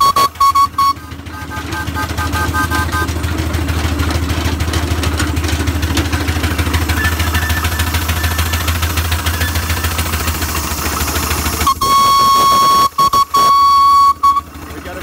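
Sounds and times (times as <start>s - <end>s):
mechanical clatter: 0.0s - 13.4s
low engine rumble: 0.0s - 15.0s
steam engine exhaust beats: 0.0s - 15.0s.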